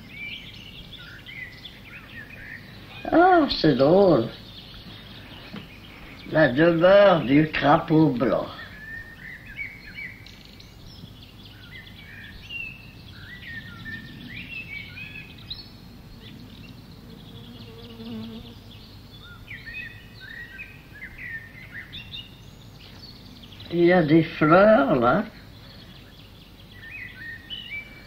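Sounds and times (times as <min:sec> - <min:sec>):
faint low hum: 0:00.0 - 0:28.0
small birds chirping: 0:00.0 - 0:28.0.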